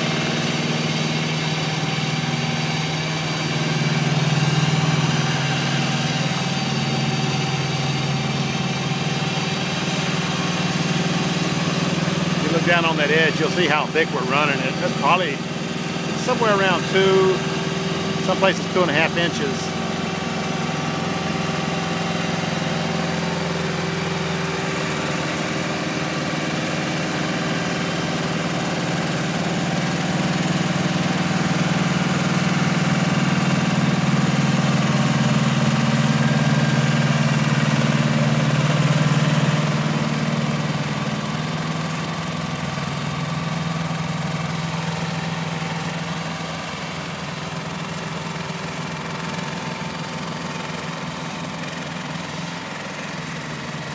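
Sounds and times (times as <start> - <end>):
diesel paving machinery humming: 0.0 - 53.9.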